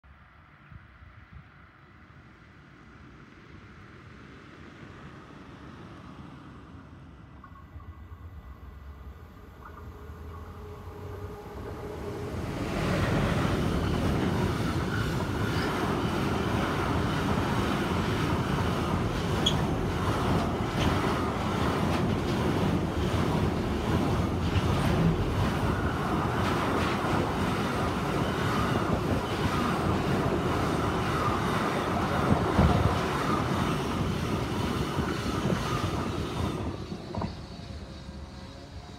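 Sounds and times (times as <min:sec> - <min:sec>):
freight train passing on rails: 0:00.3 - 0:38.9.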